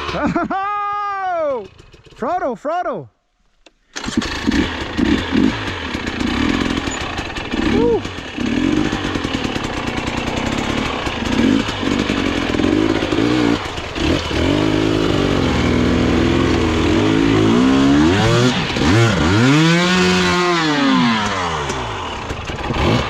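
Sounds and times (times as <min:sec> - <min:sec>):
dirt bike engine revving: 0:04.0 - 0:23.0.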